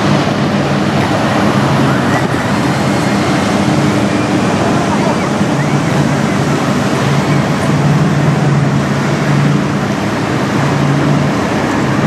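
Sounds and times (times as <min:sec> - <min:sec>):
choppy water washing: 0:00.0 - 0:12.0
low diesel drone: 0:00.0 - 0:12.0.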